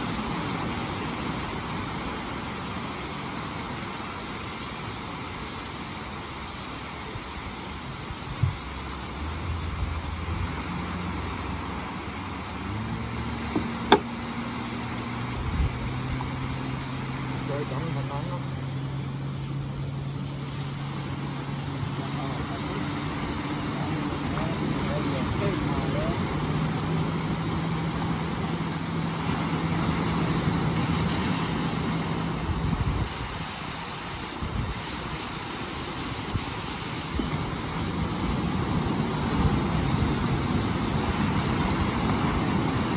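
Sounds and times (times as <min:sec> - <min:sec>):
outboard engine running: 0:00.0 - 0:42.9
surf washing: 0:00.0 - 0:42.9
wind: 0:00.0 - 0:42.9.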